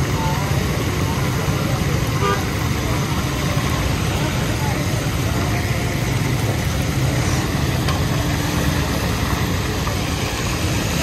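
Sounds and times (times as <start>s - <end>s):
low steady rumble: 0.0s - 11.0s
oil sizzling hiss: 0.0s - 11.0s.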